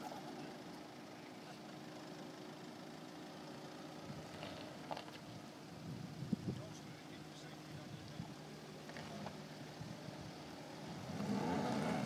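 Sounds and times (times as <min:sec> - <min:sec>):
faint car engine running: 0:00.0 - 0:12.0
tyres on gravel: 0:00.0 - 0:12.0.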